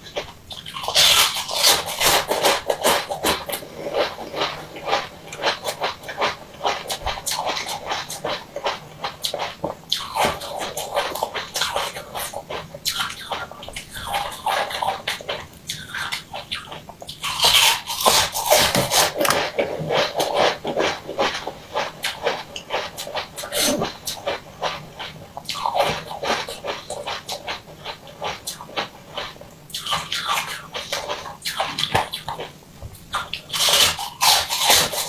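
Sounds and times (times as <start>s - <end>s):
wet chewing with crackling clicks: 0.0s - 35.0s.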